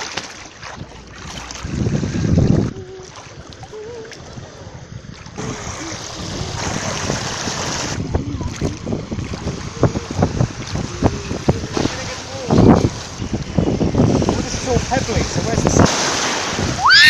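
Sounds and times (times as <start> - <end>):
wind buffeting microphone: 0.6 - 17.0
sea surf washing in: 0.8 - 17.0.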